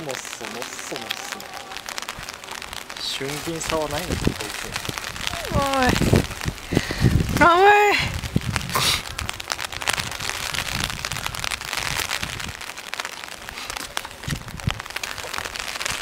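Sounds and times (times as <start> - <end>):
steady rain pattering: 0.0 - 16.0.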